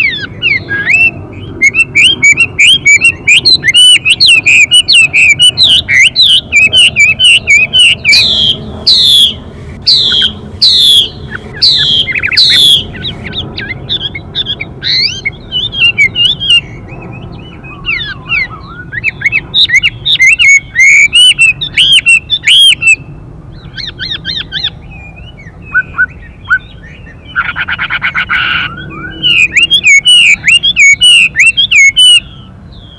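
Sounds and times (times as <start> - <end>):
bird singing whistled phrases: 0.0 - 32.9.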